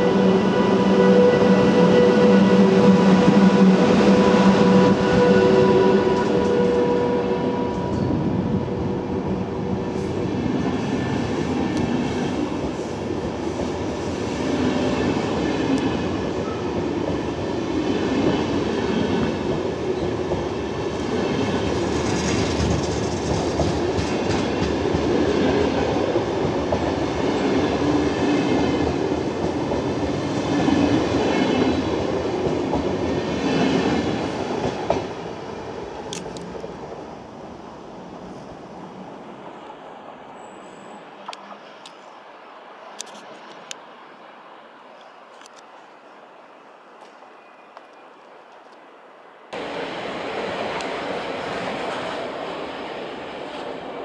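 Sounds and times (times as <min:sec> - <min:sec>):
train carriages rolling past: 0:00.0 - 0:48.6, 0:49.6 - 0:54.0.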